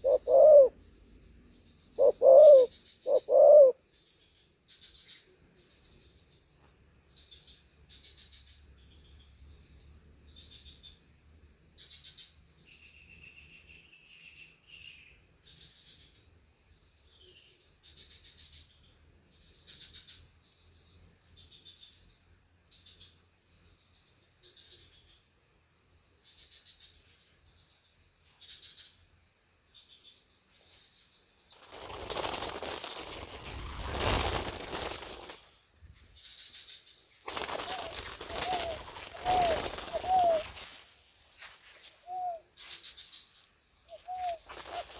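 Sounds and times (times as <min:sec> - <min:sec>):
insect chirping trill: 0:00.0 - 0:44.9.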